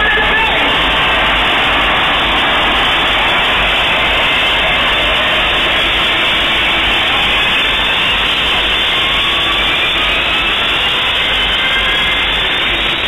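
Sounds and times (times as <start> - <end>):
loud dull wash of stage sound and crowd: 0.0 - 13.0.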